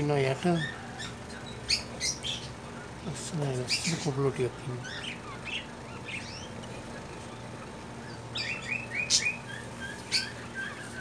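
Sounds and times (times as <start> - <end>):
parakeets chirping: 0.0 - 11.0
steady low hum: 0.0 - 11.0.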